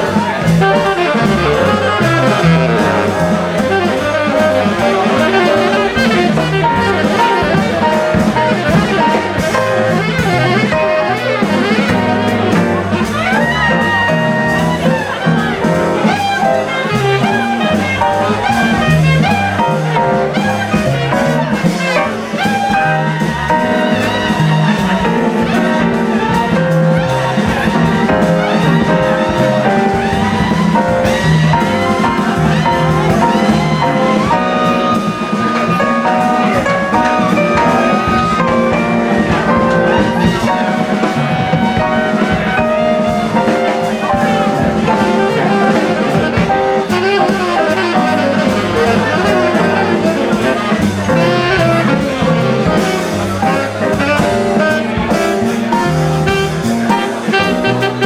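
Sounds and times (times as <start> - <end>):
drums: 0.0 - 58.0
piano: 0.0 - 58.0
saxophone: 0.0 - 58.0
walking double bass: 0.0 - 58.0.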